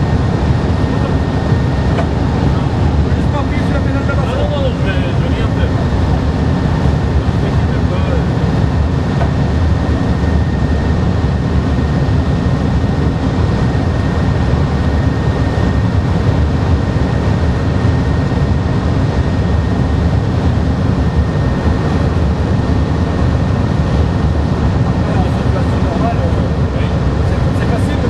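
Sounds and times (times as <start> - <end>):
train cab rumble and rush: 0.0 - 28.0.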